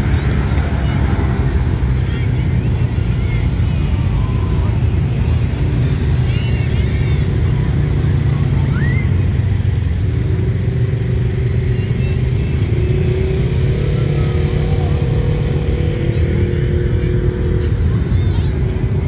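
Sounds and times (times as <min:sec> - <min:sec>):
utility vehicle engines droning: 0:00.0 - 0:19.0.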